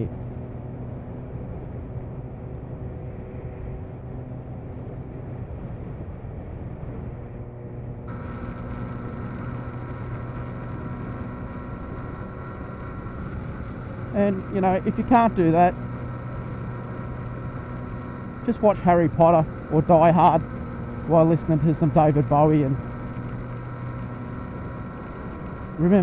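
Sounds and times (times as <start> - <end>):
motorcycle engine cruising: 0.0 - 26.0
wind and road noise: 0.0 - 26.0
thin steady high whine: 1.6 - 26.0.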